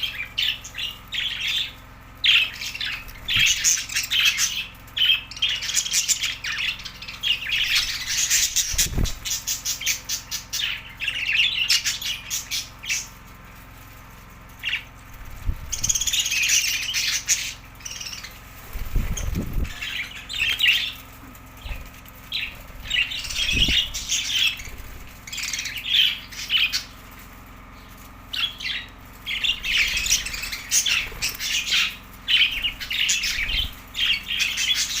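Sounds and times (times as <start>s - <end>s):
budgerigars chirping and squawking: 0.0s - 13.1s, 14.5s - 35.0s.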